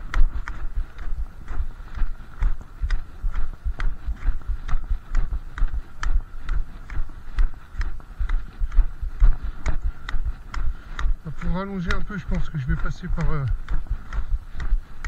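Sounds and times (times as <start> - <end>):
footsteps on snow: 0.0 - 15.0
walking poles clicking on snow: 0.0 - 15.0.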